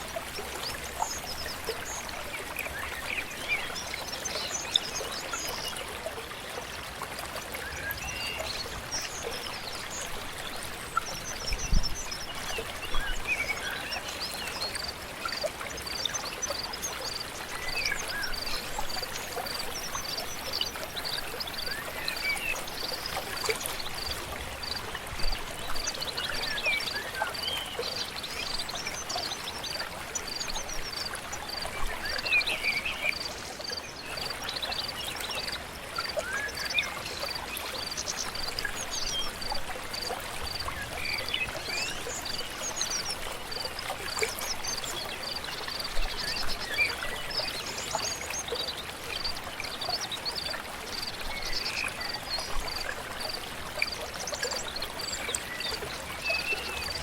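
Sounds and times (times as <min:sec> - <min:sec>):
flowing stream: 0:00.0 - 0:57.0.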